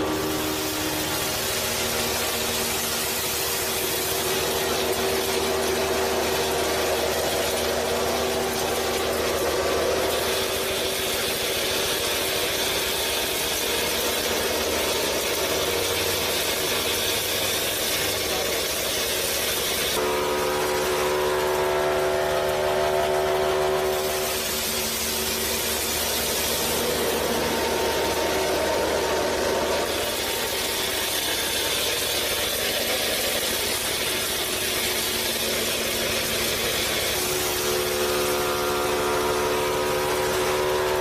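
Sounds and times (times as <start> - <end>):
small motor whirring: 0.0 - 41.0.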